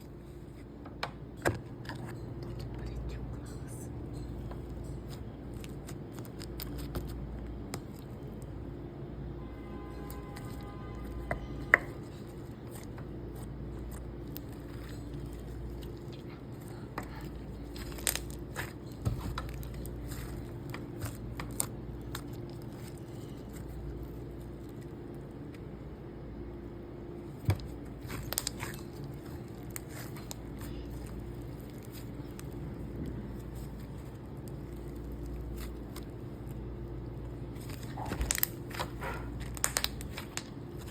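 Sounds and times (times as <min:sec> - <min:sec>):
low background hum: 0:00.0 - 0:40.9.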